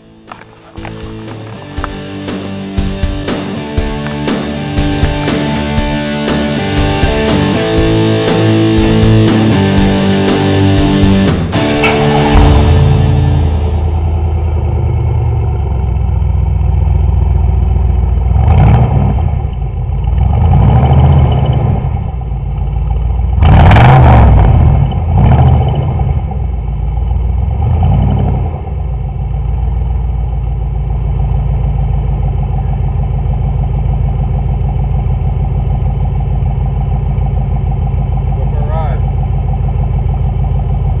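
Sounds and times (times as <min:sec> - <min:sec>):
engine revving and idling: 0:00.0 - 0:41.0.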